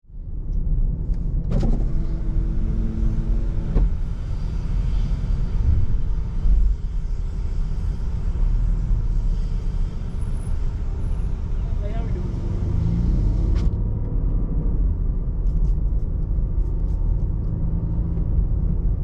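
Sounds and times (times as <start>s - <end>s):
car rumble: 0.0s - 19.0s.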